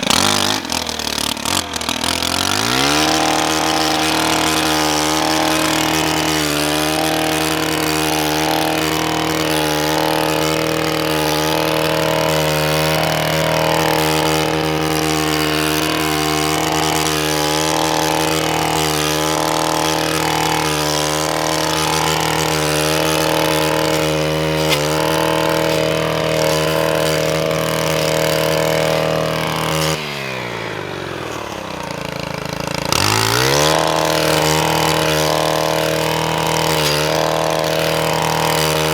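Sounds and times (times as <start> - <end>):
string trimmer engine revving: 0.0 - 38.9.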